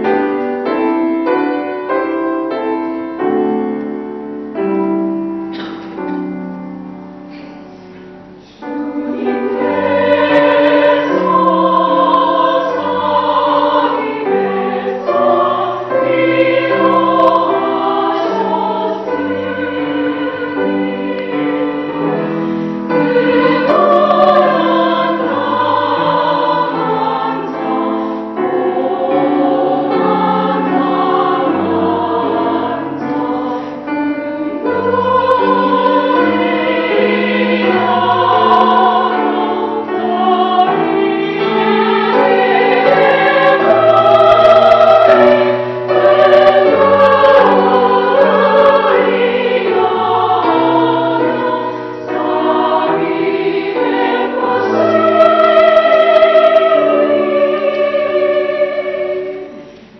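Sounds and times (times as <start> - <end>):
church choir singing: 0.0 - 59.9.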